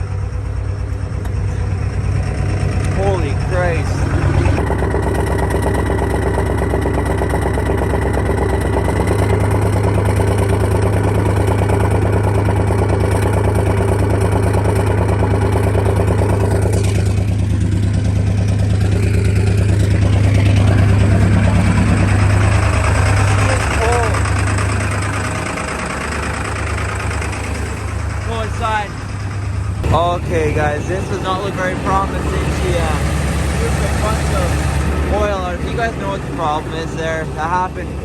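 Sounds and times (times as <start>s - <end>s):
diesel engine idling: 0.0s - 38.0s.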